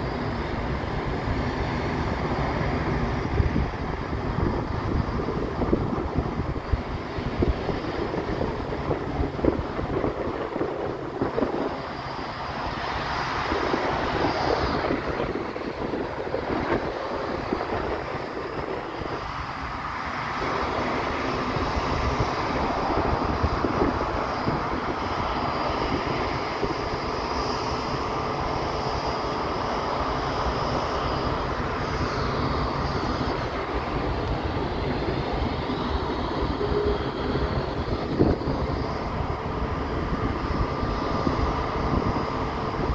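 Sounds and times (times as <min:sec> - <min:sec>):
distant jet engines running: 0:00.0 - 0:42.9
wind buffeting microphone: 0:00.0 - 0:42.9.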